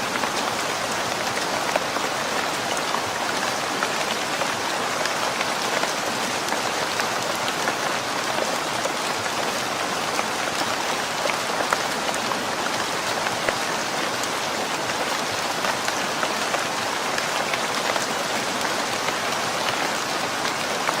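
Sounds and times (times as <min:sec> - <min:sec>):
rain patter on hard surface: 0:00.0 - 0:21.0.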